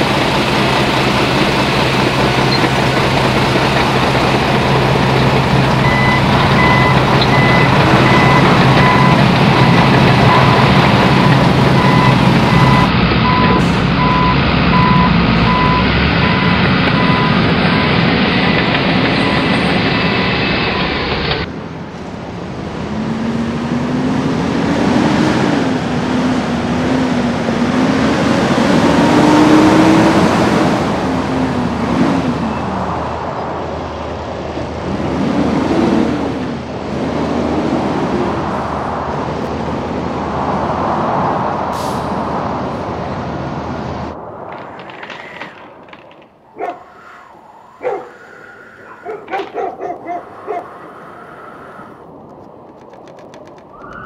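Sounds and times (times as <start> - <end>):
blizzard wind howling: 0.0 - 54.0.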